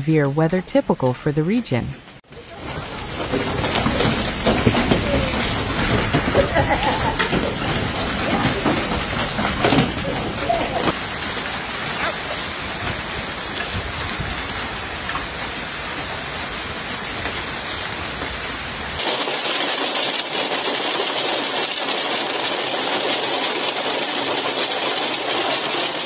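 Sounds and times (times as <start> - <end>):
heavy rain pouring: 0.1 - 26.0.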